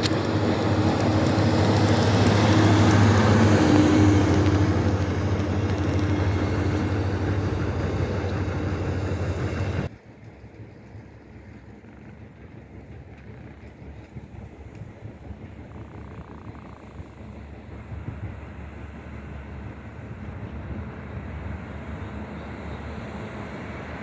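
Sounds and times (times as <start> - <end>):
vehicle engine drone: 0.0 - 9.9, 11.7 - 24.0.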